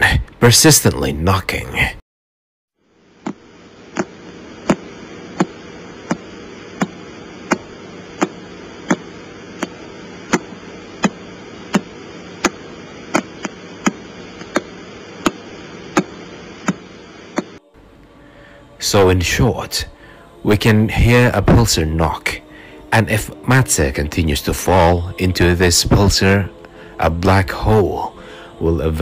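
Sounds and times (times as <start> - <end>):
radio static hiss: 0.0 - 2.0, 2.8 - 29.0.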